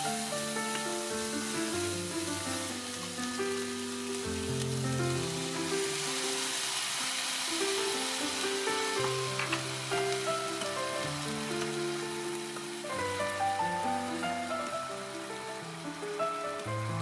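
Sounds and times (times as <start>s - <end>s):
soft background music: 0.0s - 17.0s
vegetables sizzling in oil: 0.0s - 17.0s.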